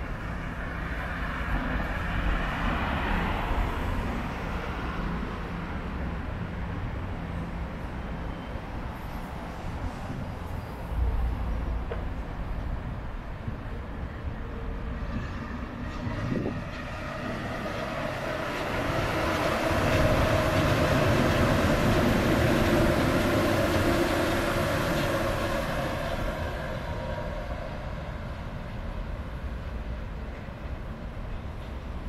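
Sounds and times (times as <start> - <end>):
train rumbling overhead: 0.0 - 32.0.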